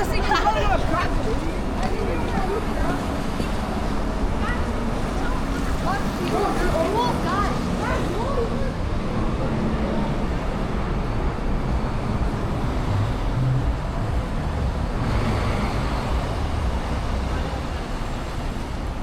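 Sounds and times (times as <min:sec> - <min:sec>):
city street traffic rumble: 0:00.0 - 0:19.0
vehicles passing: 0:00.0 - 0:19.0.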